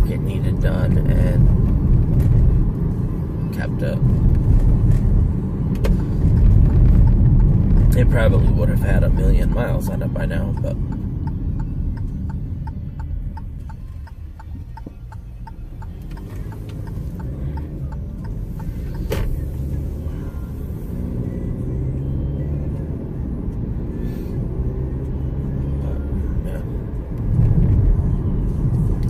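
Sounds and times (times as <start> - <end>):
engine and road rumble: 0.0 - 29.0
turn signal ticking: 0.0 - 29.0.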